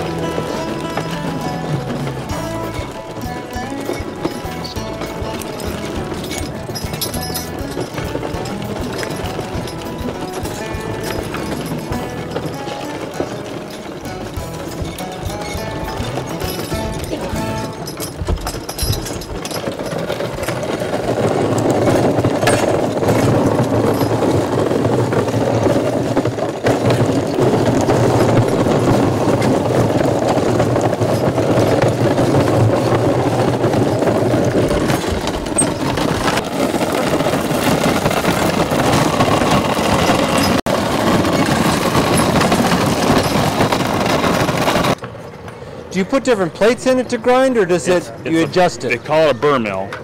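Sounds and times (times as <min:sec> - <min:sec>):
mill grinding rumble: 0:00.0 - 0:50.0.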